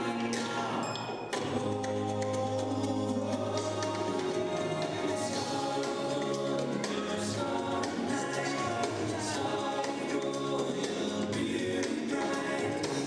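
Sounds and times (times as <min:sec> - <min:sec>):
church choir singing: 0:00.0 - 0:13.0.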